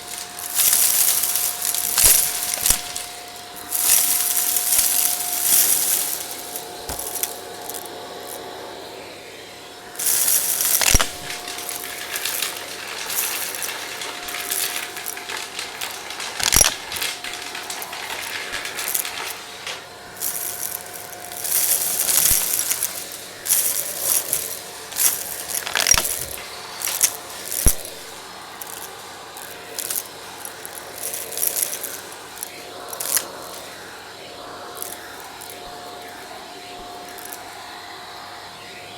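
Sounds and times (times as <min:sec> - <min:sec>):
debris crackling up vacuum: 0:00.0 - 0:38.9
vacuum cleaner whining: 0:00.0 - 0:38.9.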